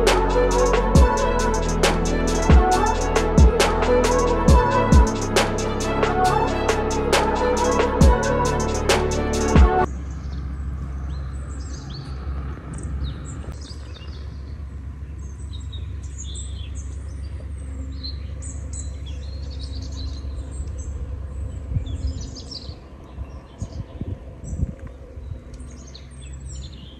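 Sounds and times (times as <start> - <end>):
low outdoor rumble: 0.0 - 26.8.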